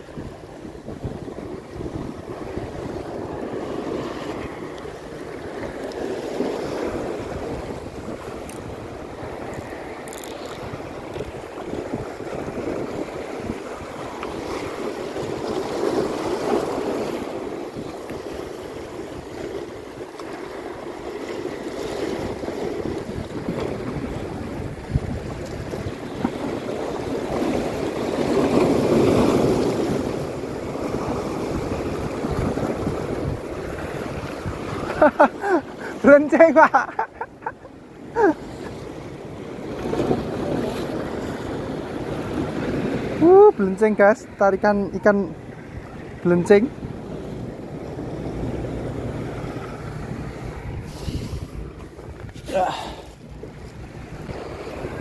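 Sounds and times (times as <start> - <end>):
wind buffeting microphone: 0.0 - 36.1, 45.0 - 55.0
sea waves splashing against rocks: 0.0 - 44.4, 45.4 - 55.0.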